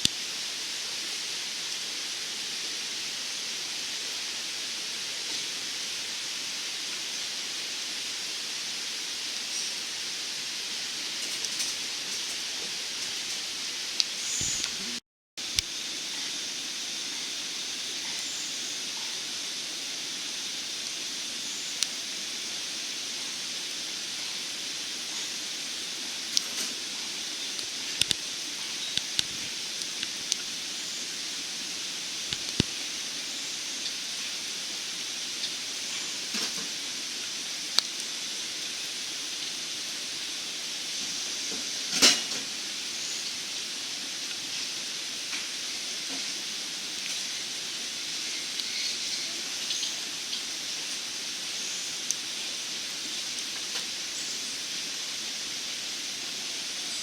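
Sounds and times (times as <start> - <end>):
wood fire crackling in a stove: 0.0 - 57.0.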